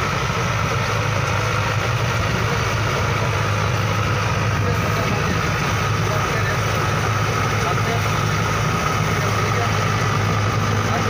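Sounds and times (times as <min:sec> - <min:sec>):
diesel engine droning: 0:00.0 - 0:11.0
steady high whine: 0:00.0 - 0:11.0.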